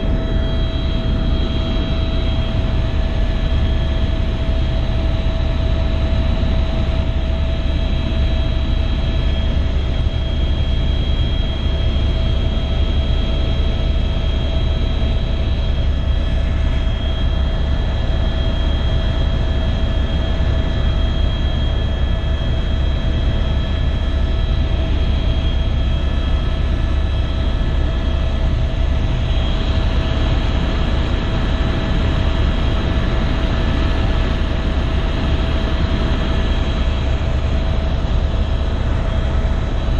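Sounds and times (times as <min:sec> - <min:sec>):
helicopter rotor and engine rumble: 0:00.0 - 0:39.9
steady whining tones: 0:00.0 - 0:39.9.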